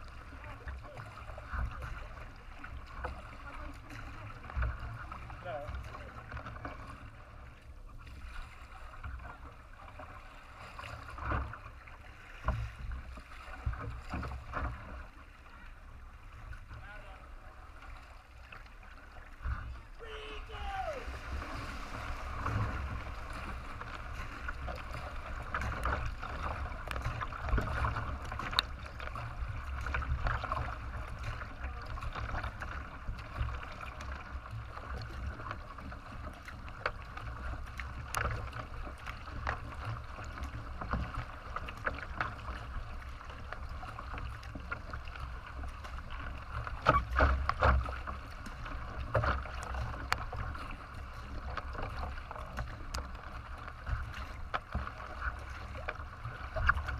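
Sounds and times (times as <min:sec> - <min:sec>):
paddle strokes dipping: 0:00.0 - 0:56.9
water splashing along kayak hull: 0:00.0 - 0:56.9.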